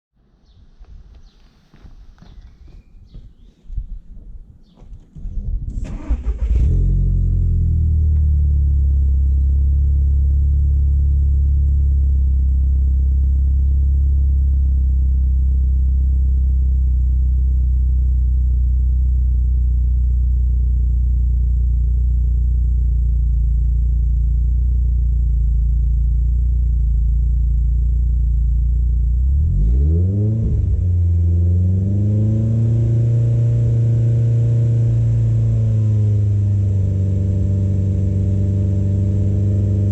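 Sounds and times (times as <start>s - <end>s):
car engine idling and revving: 5.2s - 39.9s.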